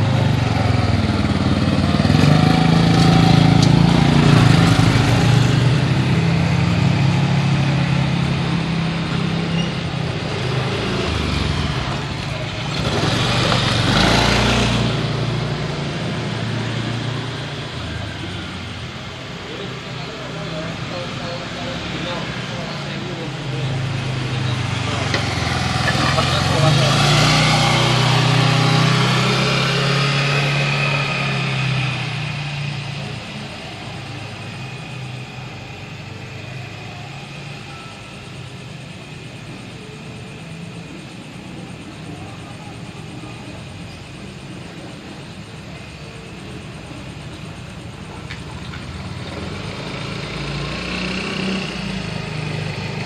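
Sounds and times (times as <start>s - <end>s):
motor vehicle passing: 0.0s - 53.0s.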